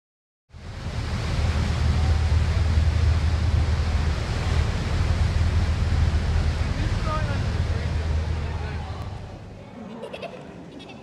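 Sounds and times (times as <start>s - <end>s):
wind on microphone: 0.5s - 9.5s
boat engine drone: 0.5s - 9.6s
rush of boat wake: 0.5s - 9.6s.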